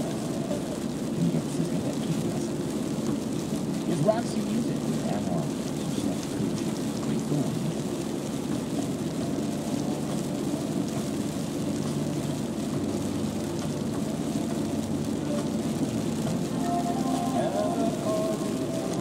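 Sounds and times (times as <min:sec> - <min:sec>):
car driving in rain: 0:00.0 - 0:19.0.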